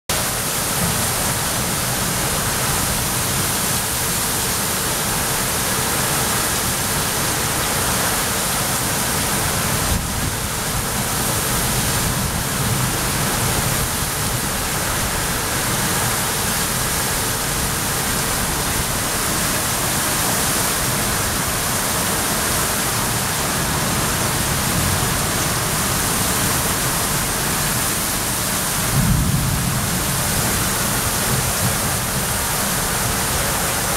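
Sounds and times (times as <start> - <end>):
torrential rain: 0.1 - 33.9
wind gusts: 0.2 - 33.9.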